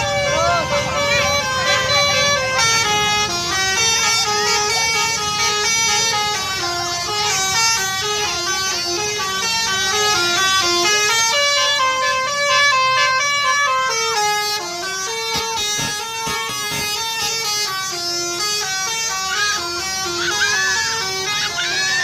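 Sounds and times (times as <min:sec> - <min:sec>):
multi-note musical bus horn: 0:00.0 - 0:22.0.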